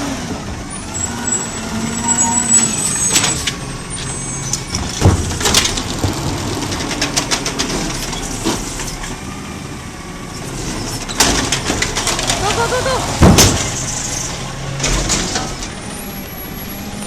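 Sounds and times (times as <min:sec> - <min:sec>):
garbage truck engine humming: 0:00.0 - 0:17.0.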